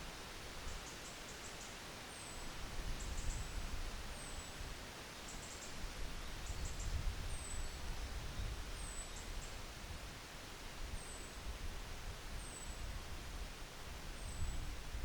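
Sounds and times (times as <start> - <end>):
wind gusts: 1.8 - 15.0.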